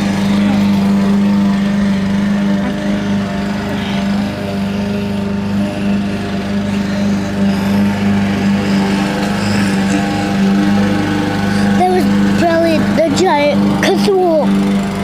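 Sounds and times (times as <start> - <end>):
motor droning: 0.0 - 15.0.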